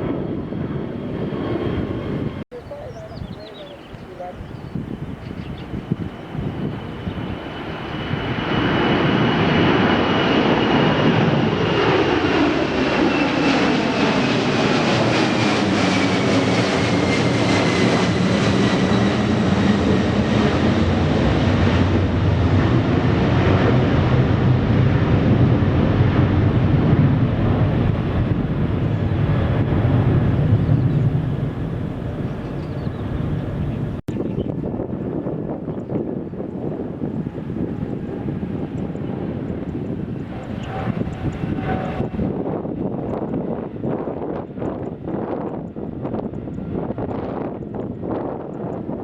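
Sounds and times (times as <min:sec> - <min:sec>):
jet airliner engines with fan whine: 0:00.0 - 0:49.0.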